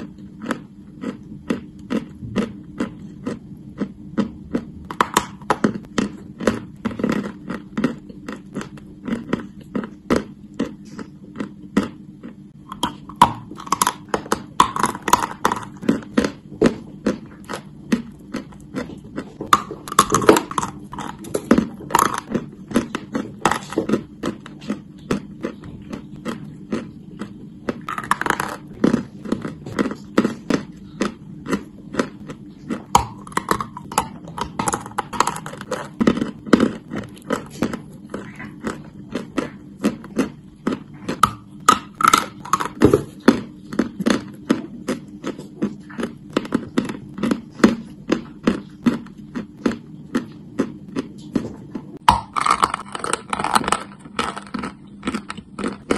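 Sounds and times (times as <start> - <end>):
person chewing chalk crunching: 0.0 - 55.9.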